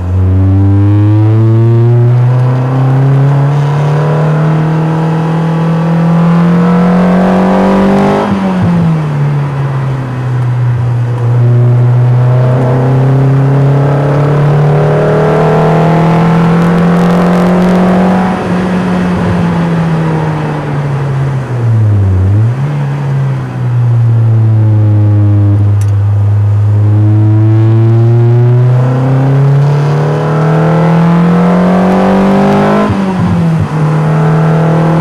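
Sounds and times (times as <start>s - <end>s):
car engine: 0.0s - 35.0s.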